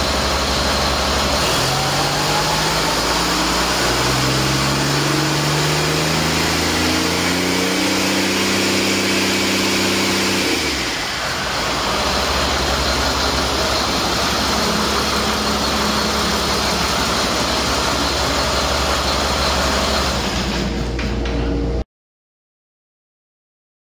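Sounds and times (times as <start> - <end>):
diesel engine running: 0.0 - 21.8.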